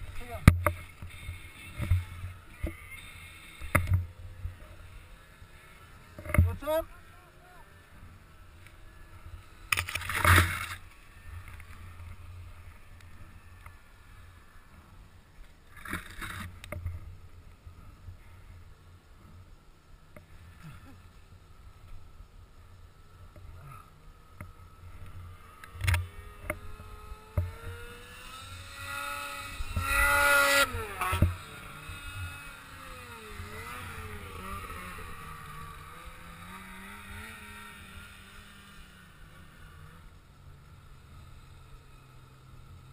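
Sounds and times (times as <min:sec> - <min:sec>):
snowmobile engine revving: 0:00.0 - 0:15.0, 0:23.0 - 0:42.9.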